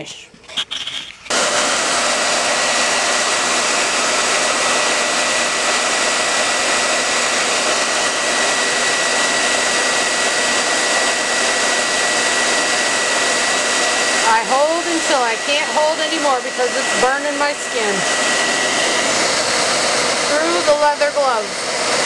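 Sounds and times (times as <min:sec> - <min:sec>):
hair dryer blowing: 0:01.3 - 0:22.0.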